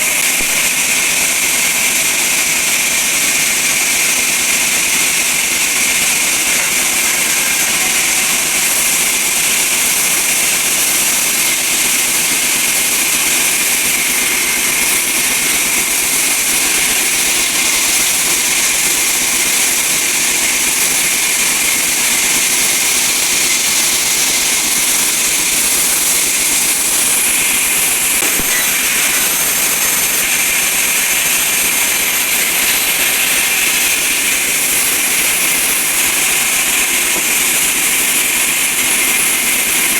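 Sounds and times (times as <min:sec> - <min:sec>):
band saw whining: 0:00.0 - 0:39.9.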